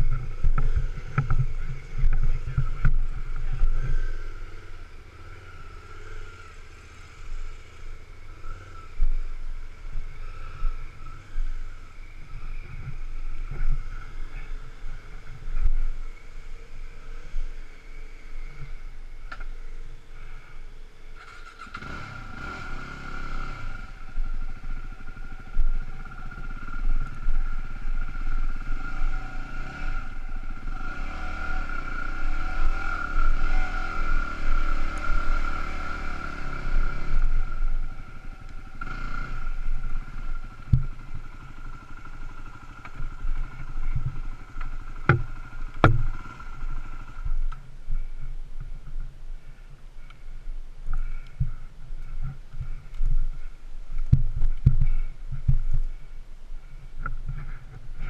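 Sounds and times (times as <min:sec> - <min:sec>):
motorcycle engine revving: 0:00.0 - 0:48.1.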